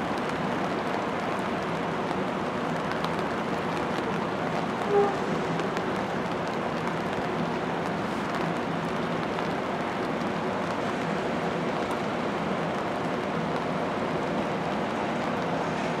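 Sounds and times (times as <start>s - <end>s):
even outdoor rush: 0.0s - 16.0s.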